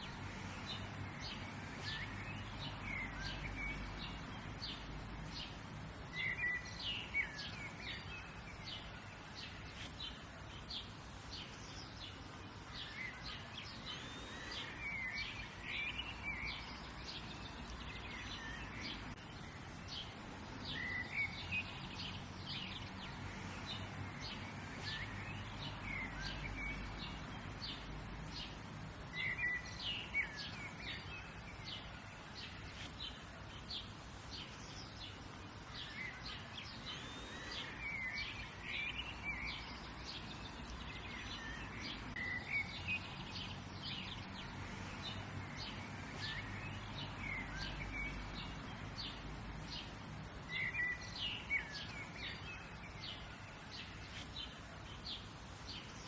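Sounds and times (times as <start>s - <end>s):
birds chirping and singing: 0.0s - 56.0s
low outdoor background: 0.0s - 56.0s.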